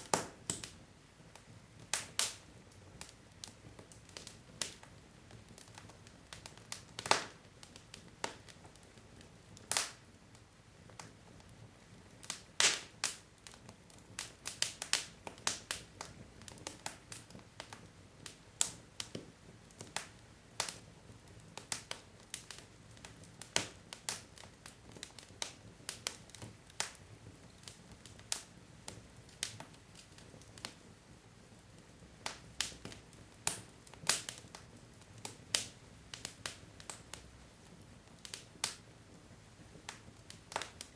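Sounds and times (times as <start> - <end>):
faint background hiss: 0.0 - 40.9
wood fire crackling: 0.0 - 40.9.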